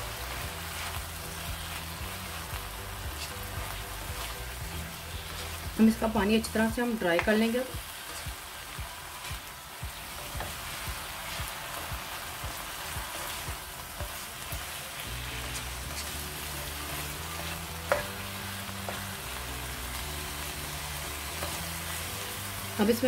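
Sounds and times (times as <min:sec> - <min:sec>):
food sizzling in a wok: 0:00.0 - 0:23.0
spatula stirring in a wok: 0:00.0 - 0:23.0.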